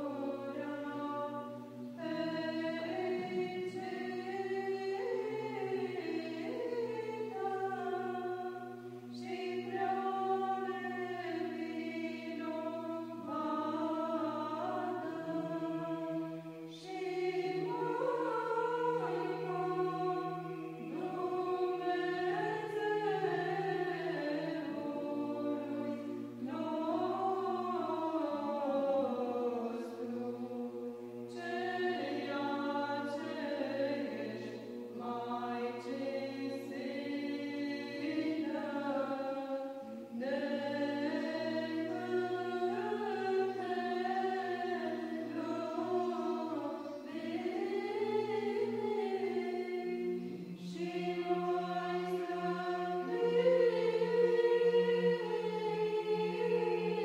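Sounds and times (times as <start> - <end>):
choir chanting over a drone: 0.0 - 57.0.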